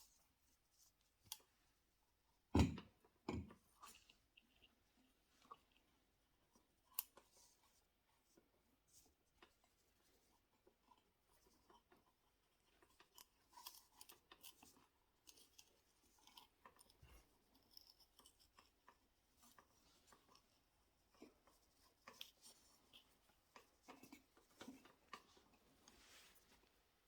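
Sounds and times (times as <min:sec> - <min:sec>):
faint small clicks and scratches: 0:00.0 - 0:01.9, 0:03.6 - 0:26.9.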